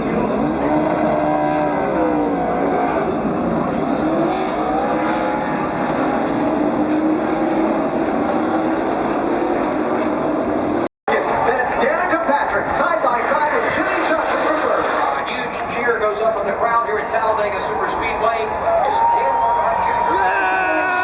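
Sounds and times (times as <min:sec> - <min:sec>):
racing cars passing: 0:00.0 - 0:20.9.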